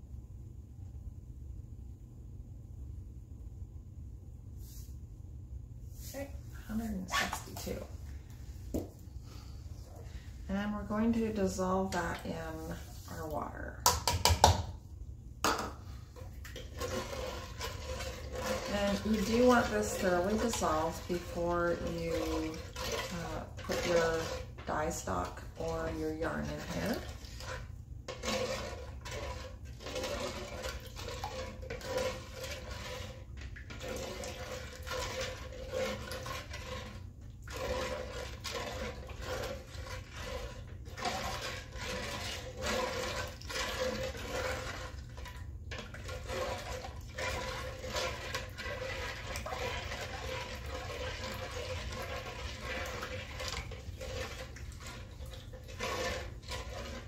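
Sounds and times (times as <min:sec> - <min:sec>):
water sloshing in metal pot: 0:06.0 - 0:57.0.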